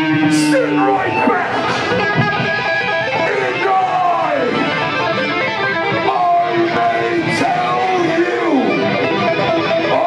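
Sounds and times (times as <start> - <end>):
punk rock band playing live: 0.0 - 10.0.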